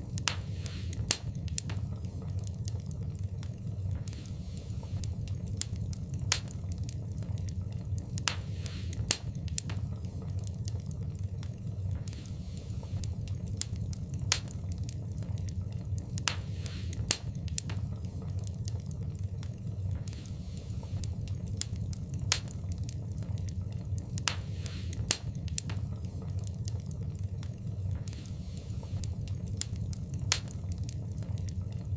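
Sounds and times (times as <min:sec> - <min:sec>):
fire crackles and pops: 0:00.0 - 0:31.9
low rumble of flames: 0:00.0 - 0:31.9.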